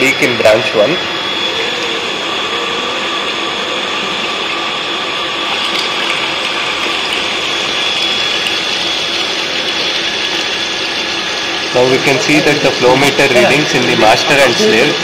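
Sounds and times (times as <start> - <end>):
electric water pump whining: 0.0 - 15.0
water running from tap: 1.4 - 15.0.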